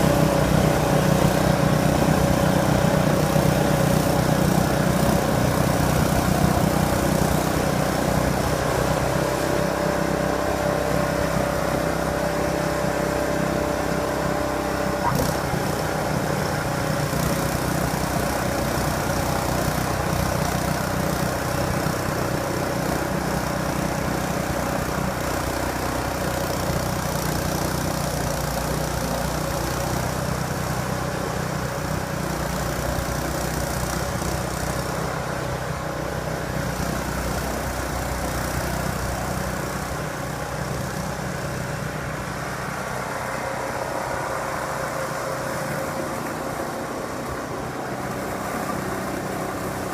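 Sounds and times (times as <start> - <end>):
snowblower engine running: 0.0 - 49.9.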